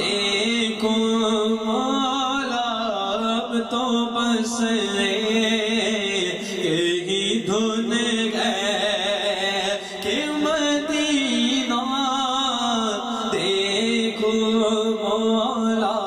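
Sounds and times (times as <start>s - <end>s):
man singing devotional melody: 0.0s - 16.0s.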